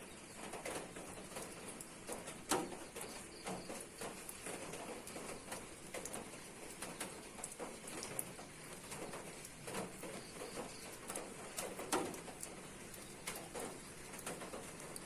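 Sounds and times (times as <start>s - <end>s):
light ticks: 0.5s - 15.0s.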